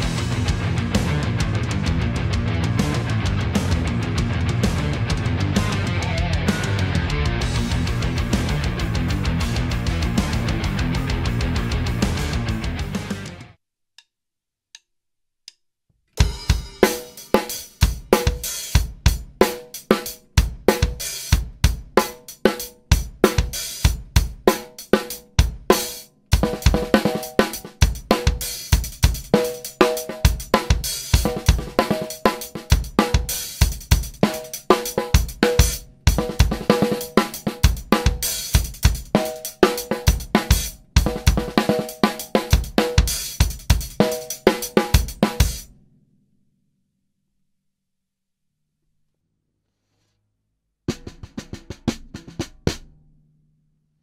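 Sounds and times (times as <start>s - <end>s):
drum kit playing a groove: 0.0s - 13.6s, 16.2s - 45.7s, 50.9s - 53.0s.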